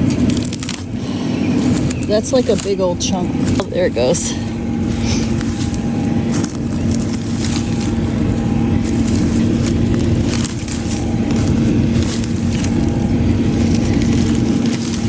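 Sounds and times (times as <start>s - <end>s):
light clicks and rustles: 0.0s - 15.0s
tractor engine idling: 0.0s - 15.0s.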